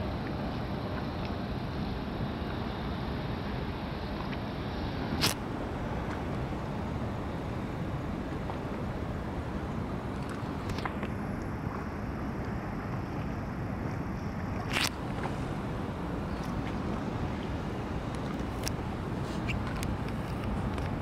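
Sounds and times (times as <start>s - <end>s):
city noise: 0.0s - 21.0s.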